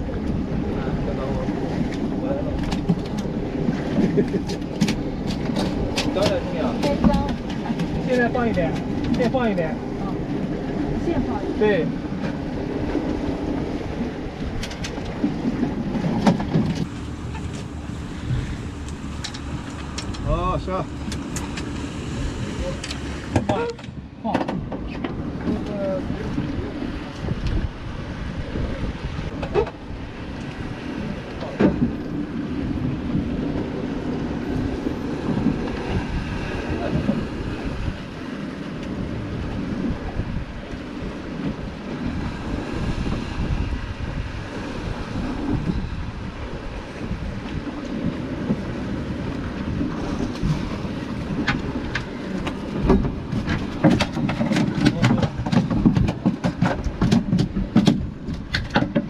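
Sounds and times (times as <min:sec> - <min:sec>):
water washing against boat hull: 0:00.0 - 0:59.0
wind buffeting microphone: 0:00.0 - 0:59.0.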